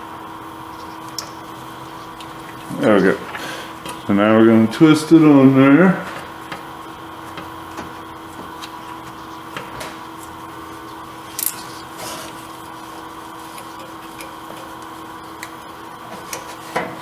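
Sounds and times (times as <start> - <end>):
steady electrical hum: 0.0 - 17.0
oil filter scraping and clicking: 0.7 - 4.1, 6.1 - 17.0.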